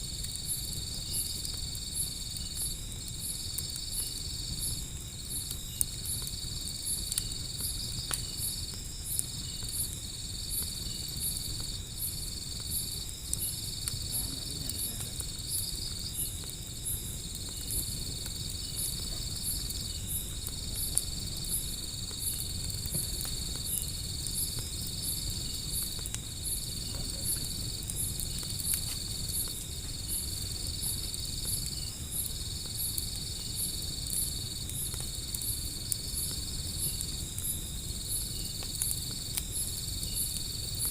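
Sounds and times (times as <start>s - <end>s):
insect trill: 0.0s - 40.9s
wood fire crackle: 0.0s - 40.9s.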